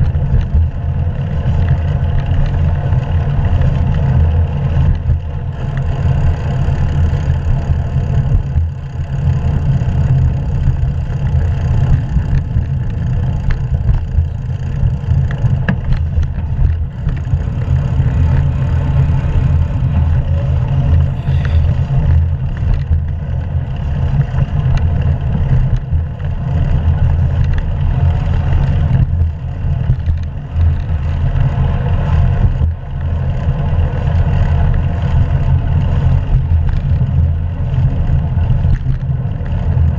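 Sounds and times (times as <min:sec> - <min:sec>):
bicycle tyre noise on road: 0:00.0 - 0:39.9
wind rumble on microphone: 0:00.0 - 0:39.9.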